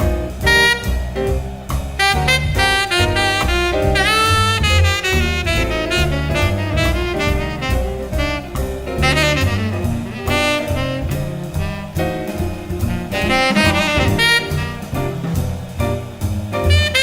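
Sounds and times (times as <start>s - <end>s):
bass: 0.0s - 17.0s
drum kit: 0.0s - 17.0s
saxophone melody: 0.5s - 1.0s, 2.0s - 15.2s.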